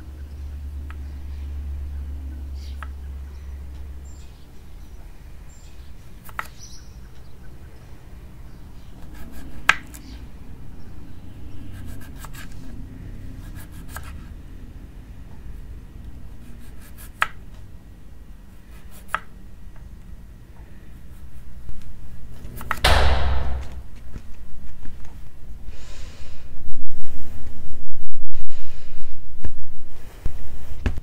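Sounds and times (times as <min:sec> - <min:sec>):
low steady hum: 0:00.0 - 0:25.7.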